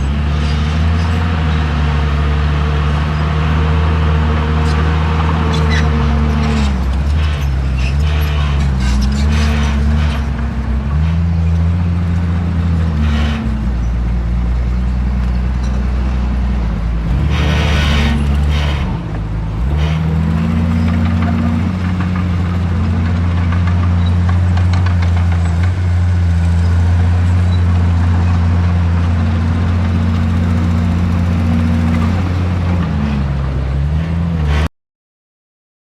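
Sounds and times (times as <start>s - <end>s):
heavy diesel engine running: 0.0s - 34.2s.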